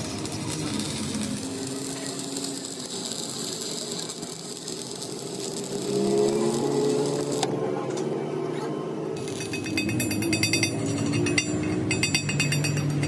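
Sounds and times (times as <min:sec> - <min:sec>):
welding arc crackling and hissing: 0:00.0 - 0:07.5, 0:09.2 - 0:13.0.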